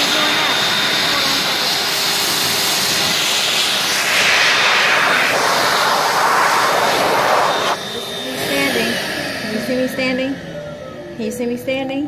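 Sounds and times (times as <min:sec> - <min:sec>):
hand dryer blowing air: 0:00.0 - 0:10.4.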